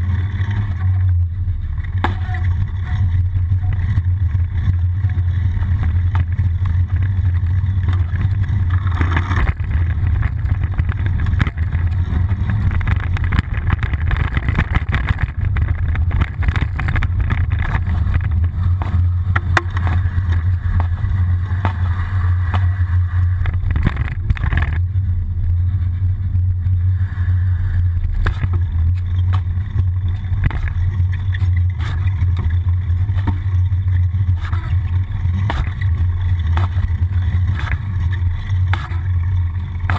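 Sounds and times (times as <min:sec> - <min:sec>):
wind buffeting and road vibration: 0:00.0 - 0:39.9
knocks and rattles from bumps: 0:01.8 - 0:24.8, 0:28.2 - 0:39.9.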